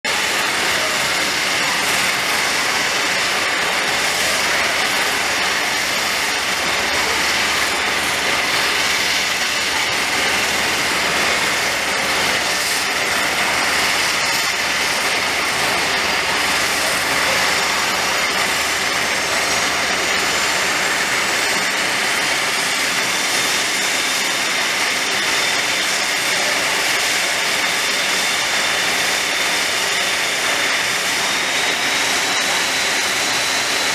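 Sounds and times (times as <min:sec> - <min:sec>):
turboprop engine starting up: 0:00.1 - 0:33.9.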